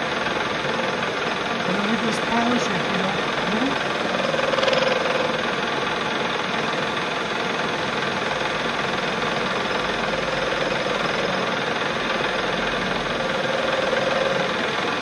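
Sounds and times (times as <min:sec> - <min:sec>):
faint whine: 0:00.0 - 0:15.0
metal lathe running: 0:00.0 - 0:15.0.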